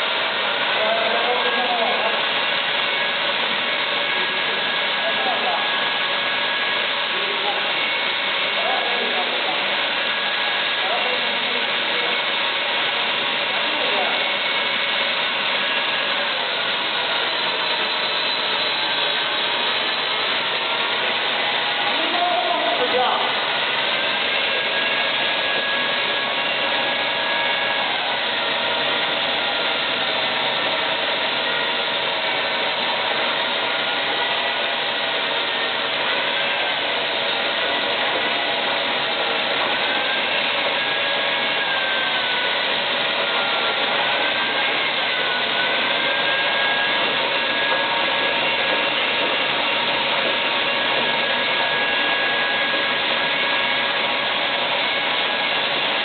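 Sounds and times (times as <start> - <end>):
bottle washing machine whir: 0.0 - 56.0.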